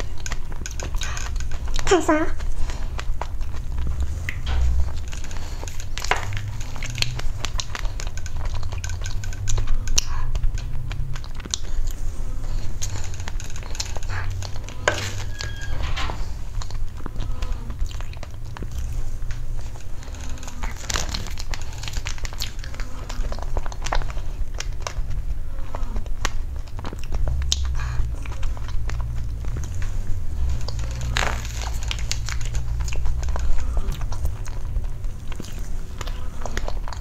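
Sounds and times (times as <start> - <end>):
steady low hum: 0.0 - 37.0
wet chewing and mouth clicks: 0.0 - 37.0.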